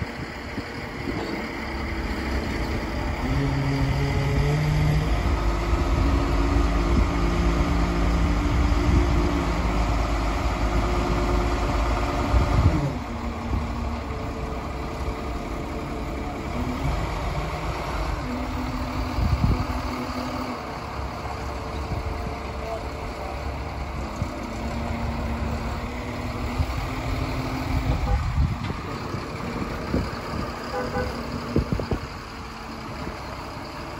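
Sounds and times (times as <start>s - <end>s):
crane engine running: 0.0s - 33.9s.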